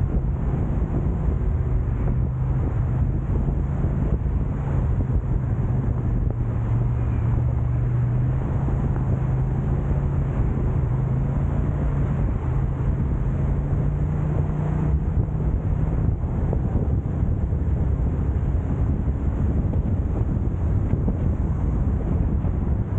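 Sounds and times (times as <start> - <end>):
car engine hum: 0.0 - 22.9
road and wind noise: 0.0 - 22.9.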